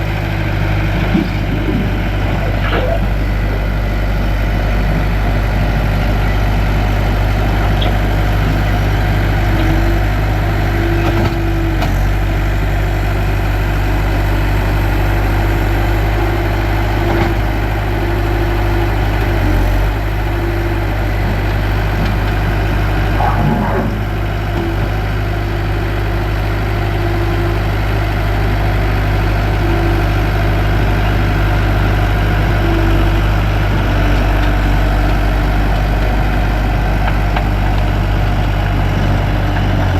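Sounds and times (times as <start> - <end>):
diesel engine idling: 0.0 - 39.9
mid-pitched engine tone: 0.0 - 39.9.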